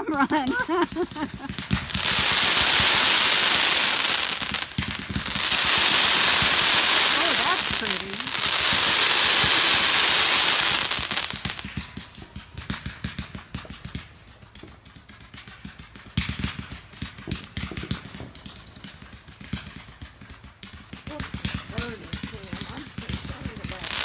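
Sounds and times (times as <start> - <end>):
firework hissing: 0.0 - 15.3, 16.3 - 24.0
firework crackling pops: 0.0 - 24.0.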